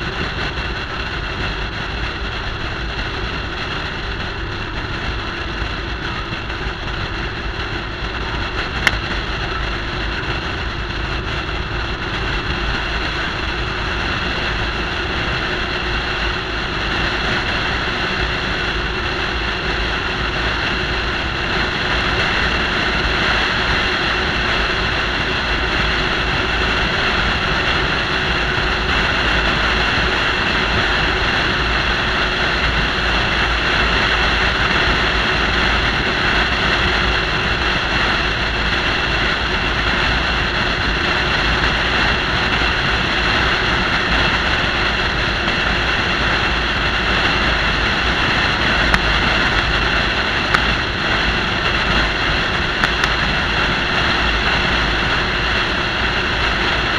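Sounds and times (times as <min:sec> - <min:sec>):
wind and road noise: 0:00.0 - 0:56.9
wind buffeting rumble: 0:00.0 - 0:56.9.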